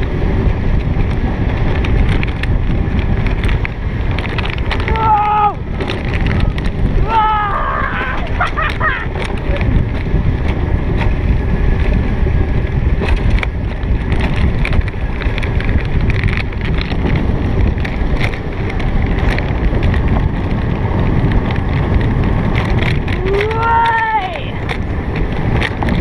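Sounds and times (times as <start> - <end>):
sled wheels rumbling on rails: 0.0 - 26.0
wind buffeting microphone: 0.0 - 26.0.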